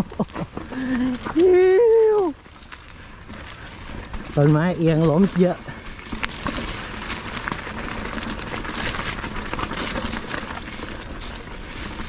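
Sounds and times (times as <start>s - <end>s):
bike clicks and rattles: 0.0s - 12.0s
bike tyre noise: 0.0s - 12.0s.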